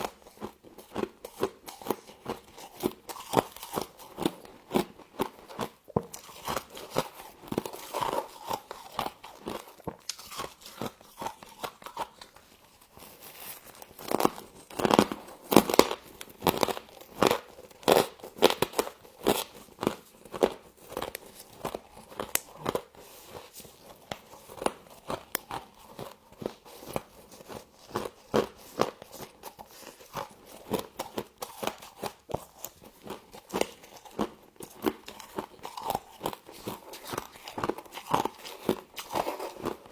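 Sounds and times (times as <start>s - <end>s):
crunching and chewing of frost: 0.0s - 39.9s.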